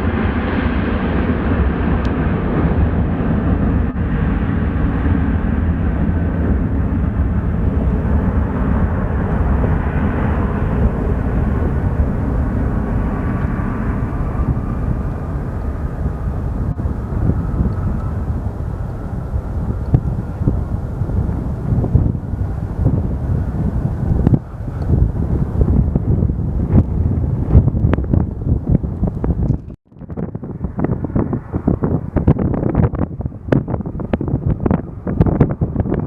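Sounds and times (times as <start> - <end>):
airplane engine passing: 0.0 - 29.4
wind rumble on microphone: 0.0 - 36.0.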